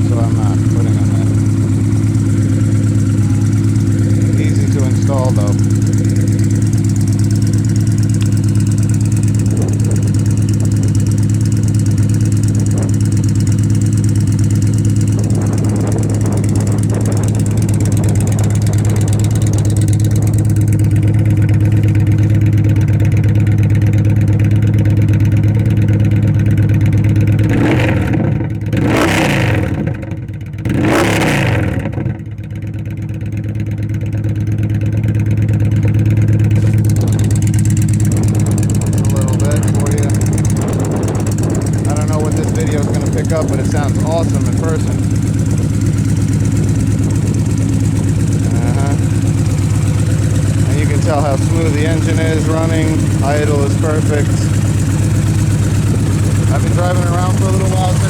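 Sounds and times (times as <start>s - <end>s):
throttle revs: 0.0s - 32.1s, 35.1s - 58.0s
motorcycle engine idling: 0.0s - 58.0s.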